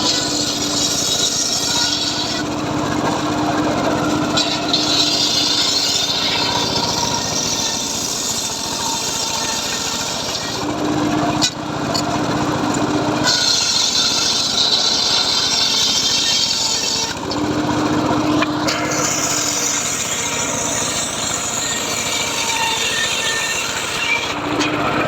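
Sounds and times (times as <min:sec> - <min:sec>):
circular saw running hum: 0:00.0 - 0:25.0.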